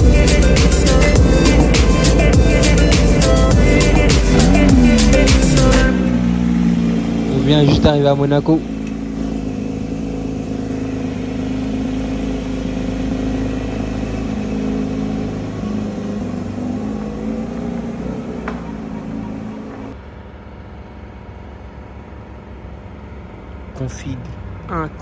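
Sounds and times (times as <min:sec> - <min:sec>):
car engine running at low speed: 0:00.0 - 0:25.0.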